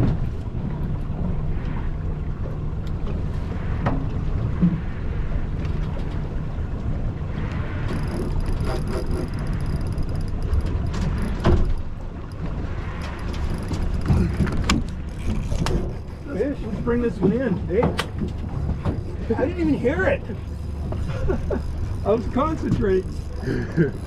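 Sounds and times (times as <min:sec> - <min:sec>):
outboard motor humming: 0:00.0 - 0:24.0
water noise: 0:00.0 - 0:24.0
wind: 0:00.0 - 0:24.0.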